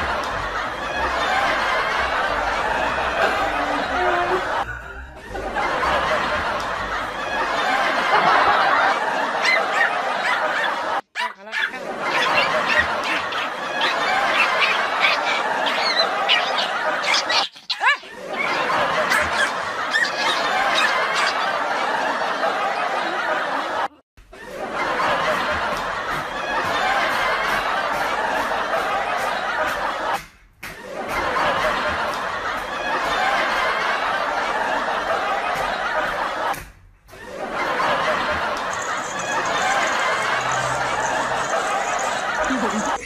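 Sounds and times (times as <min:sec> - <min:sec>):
laughter: 0:00.0 - 0:43.0.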